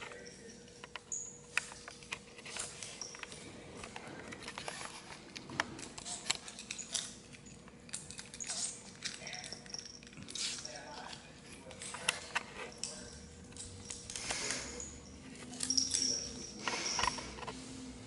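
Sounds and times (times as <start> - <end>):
animal clambering clicks and scratches: 0.0 - 17.6.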